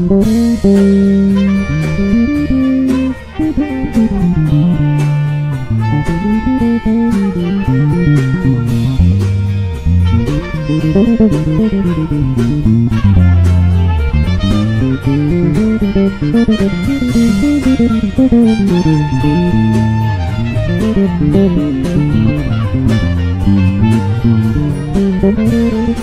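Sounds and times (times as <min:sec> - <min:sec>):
band backing track: 0:00.0 - 0:26.0
electric bass solo: 0:00.0 - 0:26.0.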